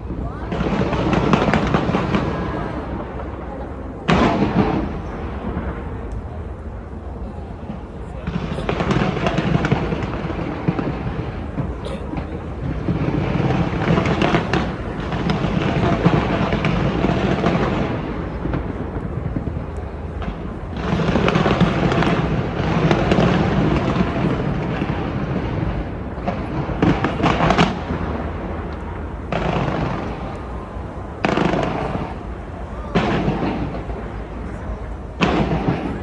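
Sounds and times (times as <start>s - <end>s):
fireworks bursting and crackling: 0.0s - 36.0s
sharp fireworks bangs: 0.0s - 36.0s.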